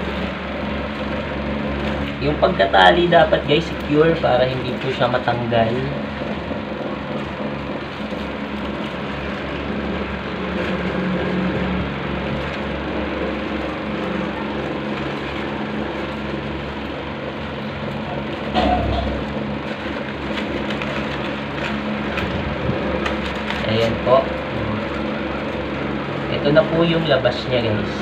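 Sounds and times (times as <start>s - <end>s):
machine drone with low hum: 0.0s - 28.0s.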